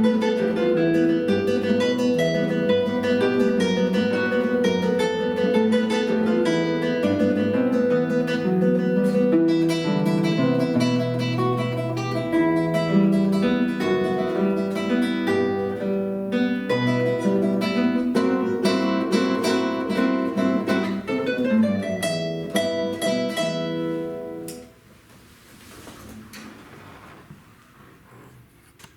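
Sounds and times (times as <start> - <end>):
acoustic guitar duet: 0.0 - 25.0.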